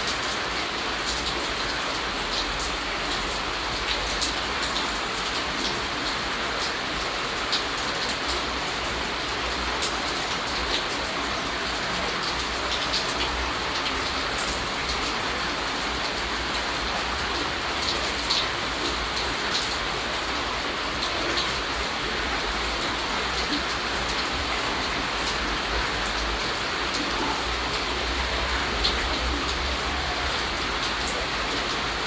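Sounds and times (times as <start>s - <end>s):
steady rainfall hiss: 0.0s - 32.0s.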